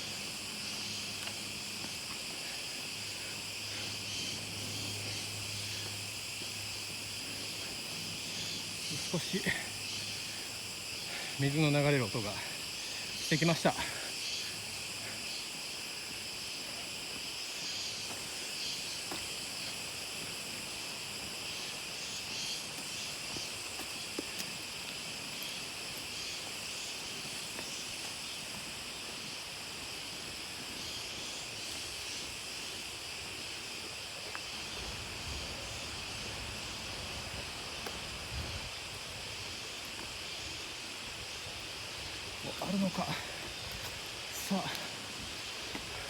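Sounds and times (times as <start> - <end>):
forest insects droning: 0.0 - 46.0.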